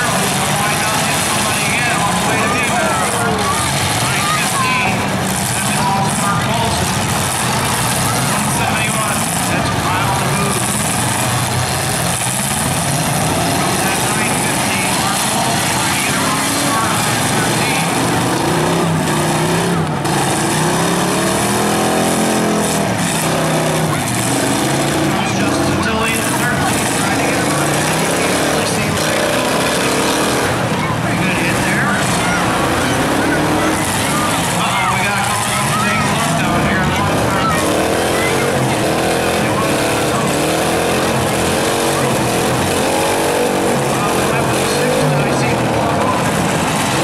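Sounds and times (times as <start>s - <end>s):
car engines running hard: 0.0s - 47.0s
engine revving: 0.0s - 47.0s.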